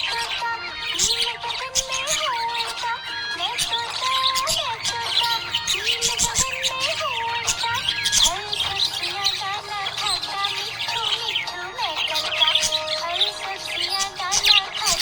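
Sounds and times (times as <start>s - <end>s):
background music: 0.0s - 15.0s
budgerigars chirping: 0.0s - 15.0s.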